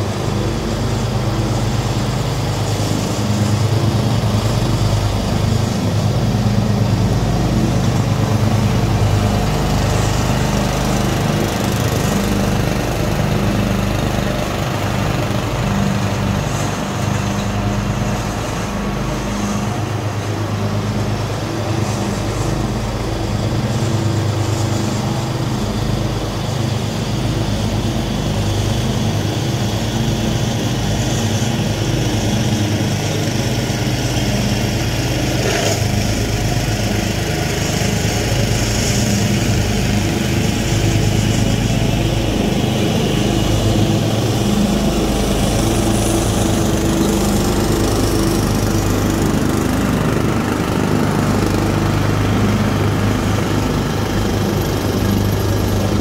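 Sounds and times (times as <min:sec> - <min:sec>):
mower engines running: 0:00.0 - 0:56.0.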